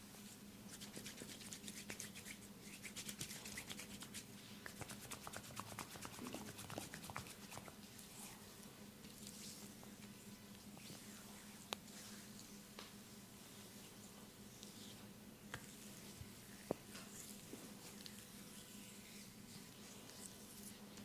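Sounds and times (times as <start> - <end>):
oiled hands rubbing skin: 0.2 - 12.7, 13.4 - 21.0.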